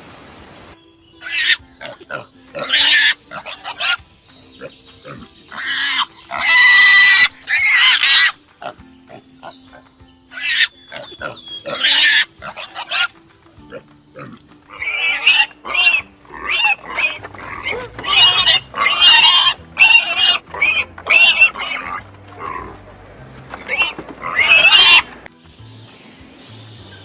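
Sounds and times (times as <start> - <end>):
quiet background music: 0.3 - 27.0
pig squealing: 1.2 - 4.0, 4.6 - 22.8, 23.5 - 25.2.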